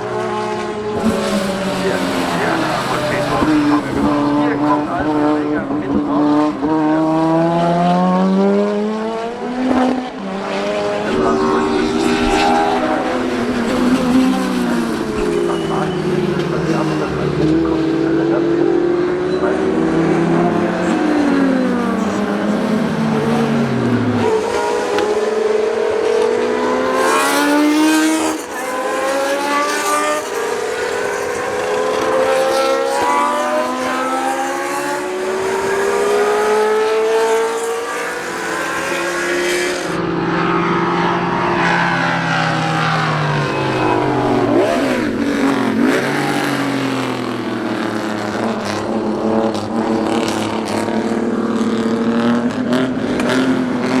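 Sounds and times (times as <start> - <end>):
racing cars passing at full throttle: 0.0 - 54.0.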